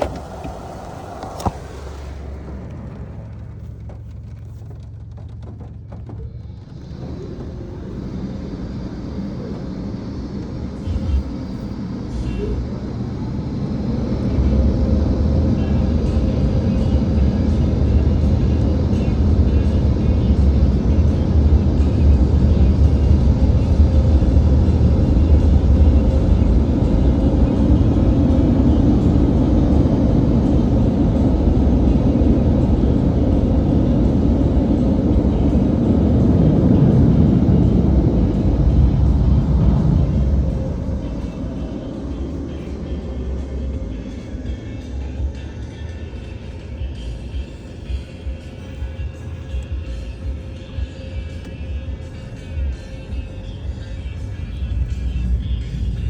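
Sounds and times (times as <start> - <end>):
low vehicle rumble: 0.0 - 56.0.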